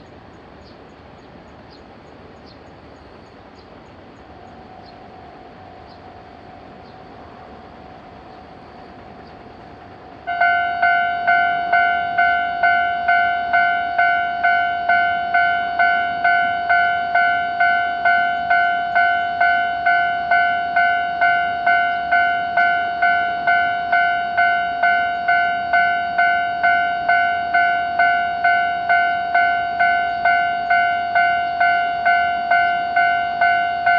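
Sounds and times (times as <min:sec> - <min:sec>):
level crossing warning bell: 0:04.4 - 0:33.9.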